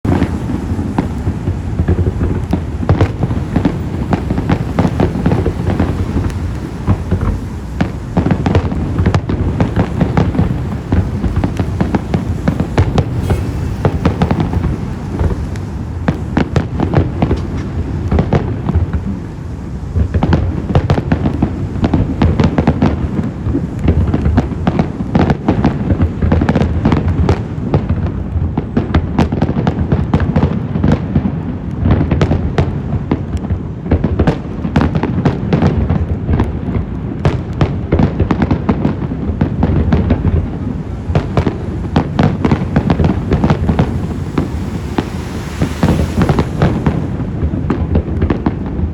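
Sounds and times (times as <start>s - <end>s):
fireworks crackles and bangs: 0.0s - 48.9s
low rumble of bursting shells: 0.0s - 48.9s.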